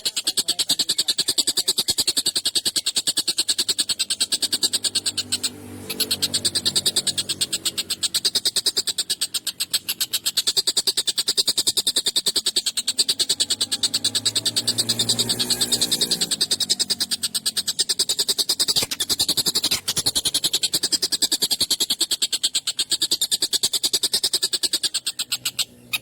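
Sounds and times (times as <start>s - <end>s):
bird rattling chatter: 0.0s - 26.0s.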